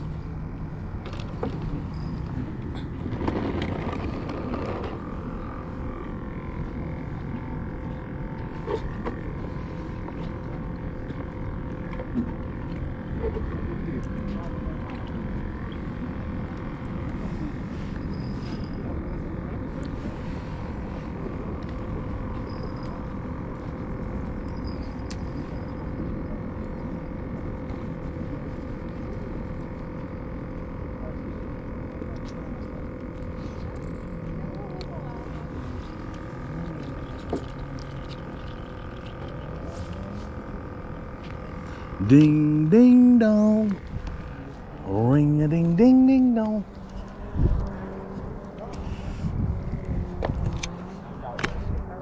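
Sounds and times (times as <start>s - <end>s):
low outdoor hum: 0.0s - 52.0s.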